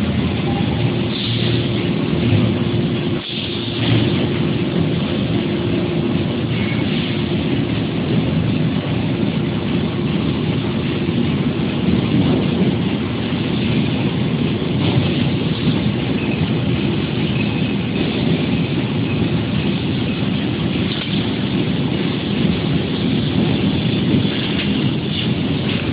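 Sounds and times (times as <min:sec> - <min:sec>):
laser cutter hissing and rumbling: 0:00.0 - 0:25.9.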